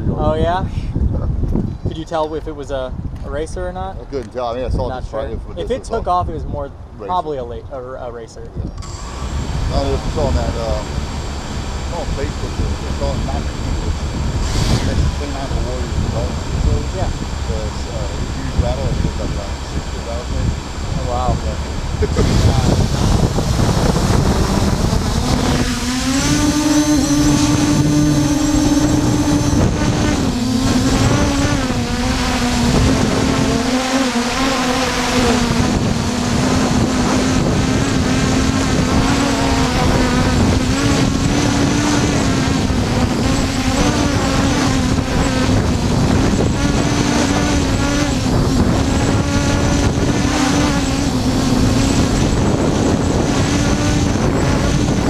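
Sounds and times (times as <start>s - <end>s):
quadcopter motors whining: 0.0s - 55.0s
wind noise on microphone: 0.0s - 55.0s.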